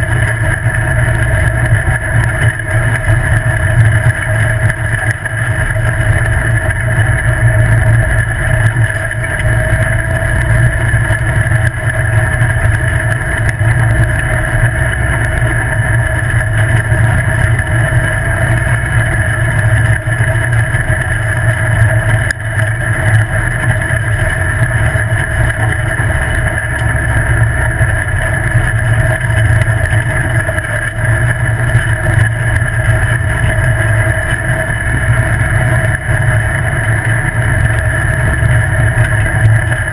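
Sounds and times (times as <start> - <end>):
car engine and tyres on dirt: 0.0 - 39.9.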